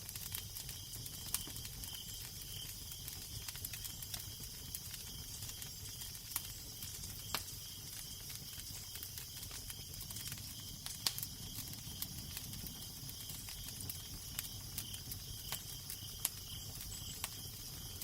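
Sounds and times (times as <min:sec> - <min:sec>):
fire pops: 0:00.0 - 0:18.0
wood fire crackling: 0:00.0 - 0:18.0.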